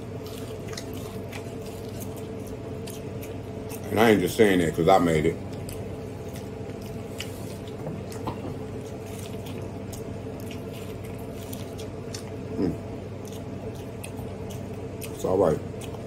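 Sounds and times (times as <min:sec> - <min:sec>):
man chewing corn: 0:00.0 - 0:16.0.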